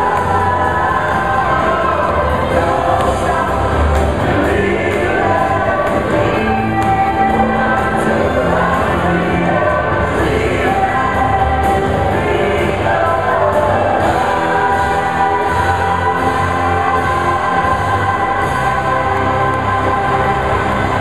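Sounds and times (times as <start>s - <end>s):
chorus singing: 0.0s - 21.0s
full band playing: 0.0s - 21.0s.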